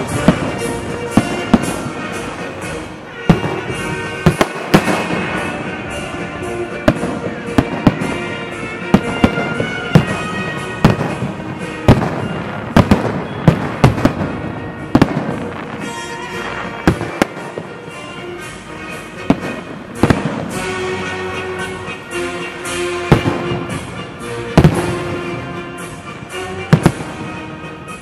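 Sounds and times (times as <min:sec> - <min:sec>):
fireworks shells bursting: 0:00.0 - 0:28.0
music playing: 0:00.0 - 0:28.0.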